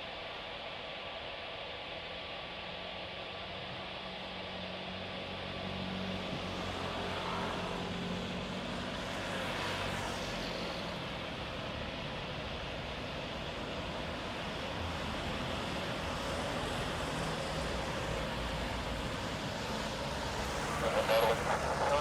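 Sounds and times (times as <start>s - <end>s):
jet engine rush: 0.0s - 22.0s.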